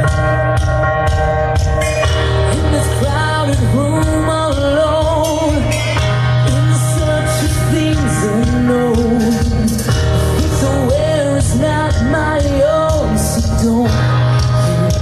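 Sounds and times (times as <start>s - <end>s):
gliding lead guitar line: 0.0s - 15.0s
live rock band playing: 0.0s - 15.0s.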